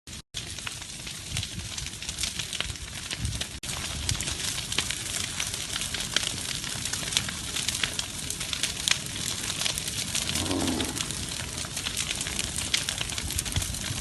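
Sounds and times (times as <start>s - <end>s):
wildfire crackling and popping: 0.1s - 14.0s.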